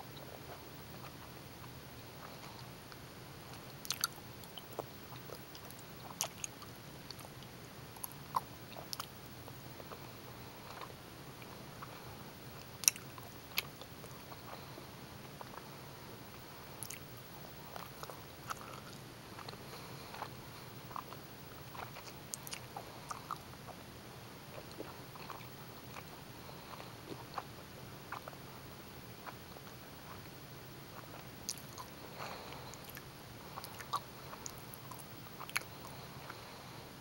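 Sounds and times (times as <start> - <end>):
faint steady hiss: 0.0 - 37.0
chewing with mouth clicks: 0.2 - 14.8, 15.4 - 23.8, 24.4 - 36.6.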